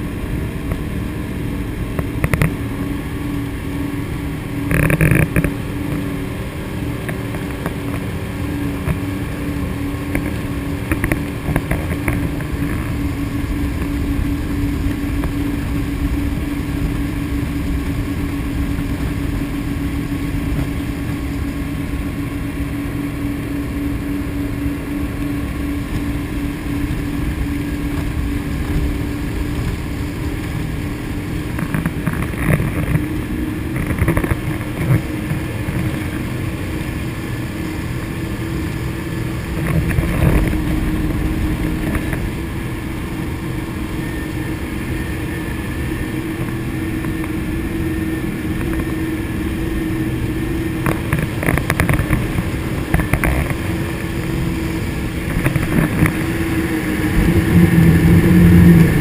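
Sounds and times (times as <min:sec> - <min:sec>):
powerboat engine drone: 0:00.0 - 0:59.0
water rushing: 0:00.0 - 0:59.0
wind rush: 0:00.0 - 0:59.0.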